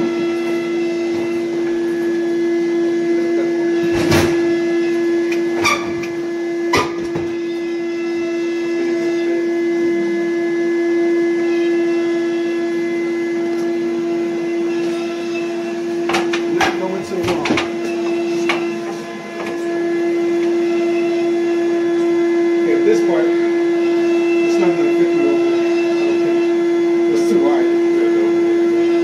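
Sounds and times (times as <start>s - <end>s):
loud steady pitched drone: 0.0s - 29.0s.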